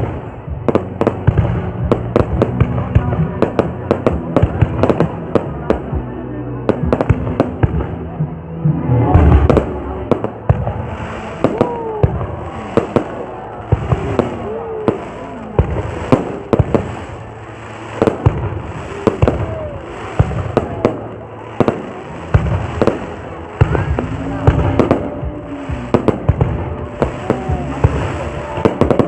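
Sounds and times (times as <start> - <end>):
background rumble: 0.0 - 29.0
fireworks bangs: 0.0 - 29.0.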